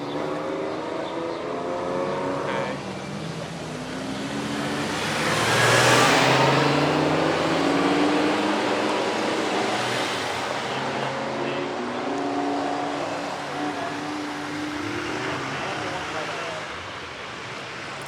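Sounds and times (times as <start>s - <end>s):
car accelerating: 0.0s - 18.0s
cars driving past: 0.0s - 18.0s.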